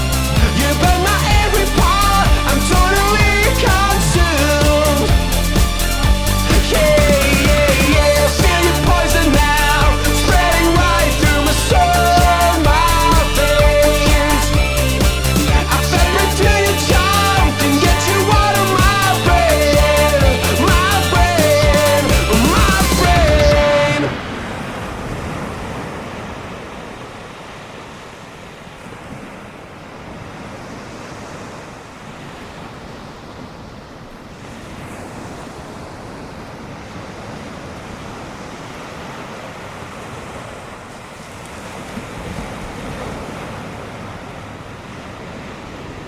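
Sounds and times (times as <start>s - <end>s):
ocean surf breaking: 0.0s - 46.0s.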